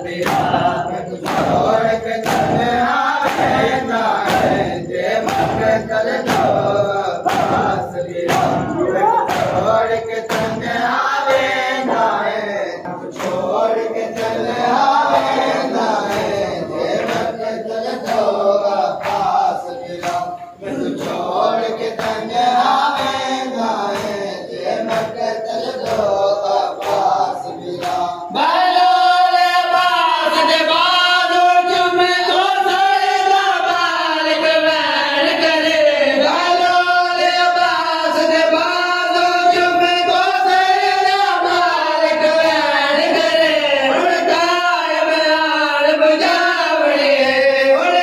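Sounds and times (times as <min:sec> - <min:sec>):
man singing lament: 0:00.0 - 0:48.0
men chanting together: 0:00.0 - 0:48.0
rhythmic chest-beating strikes: 0:00.0 - 0:48.0.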